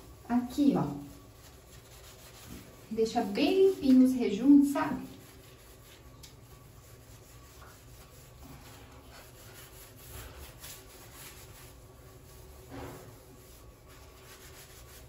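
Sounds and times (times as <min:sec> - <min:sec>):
steel wool scrubbing tiles: 0:00.0 - 0:15.0.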